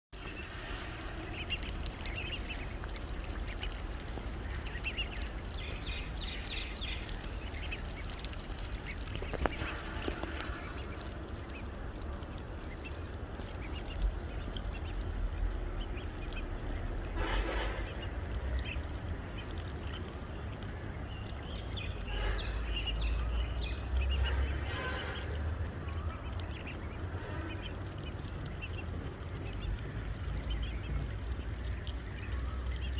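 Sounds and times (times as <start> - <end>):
ducklings peeping: 0.2 - 32.9
steady low rumble: 0.2 - 32.9.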